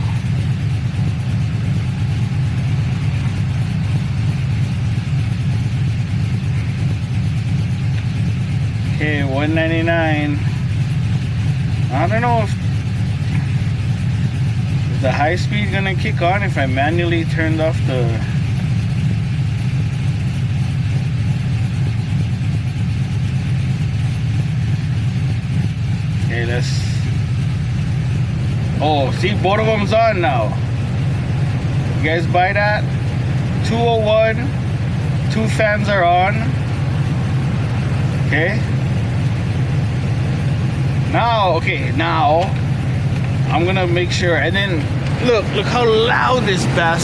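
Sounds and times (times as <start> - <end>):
engine idling low rumble: 0.0 - 47.0
radiator cooling fans running: 0.0 - 47.0.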